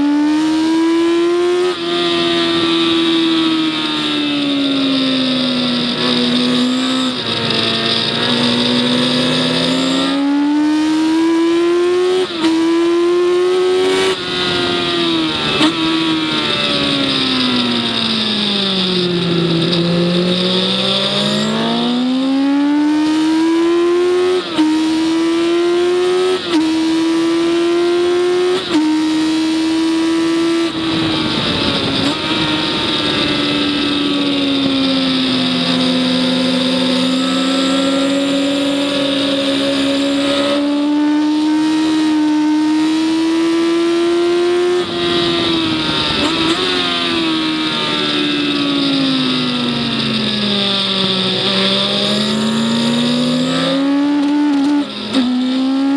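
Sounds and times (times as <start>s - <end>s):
racing engine accelerating: 0.0s - 55.9s.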